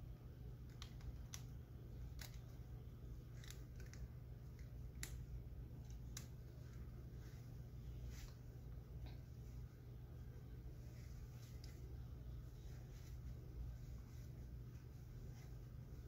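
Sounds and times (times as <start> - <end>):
steady low hum: 0.0 - 16.0
hair crackling as twisted: 0.2 - 16.0.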